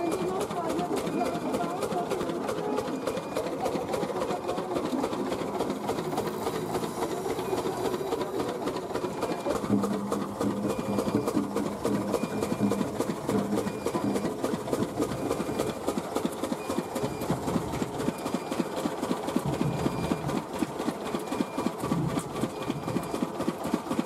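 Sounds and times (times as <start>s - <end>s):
machine clattering: 0.0s - 24.0s.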